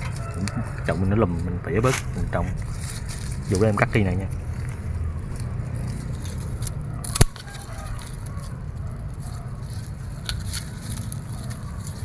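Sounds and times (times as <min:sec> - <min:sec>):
low rumble: 0:00.0 - 0:12.0
pruning shears snipping: 0:00.0 - 0:12.0.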